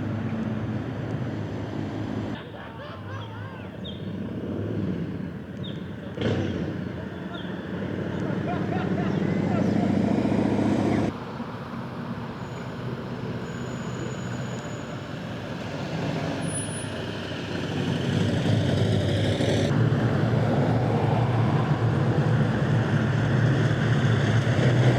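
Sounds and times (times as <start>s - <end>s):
car engines and exhaust: 0.0s - 2.9s, 3.6s - 24.9s
traffic noise: 0.0s - 24.9s.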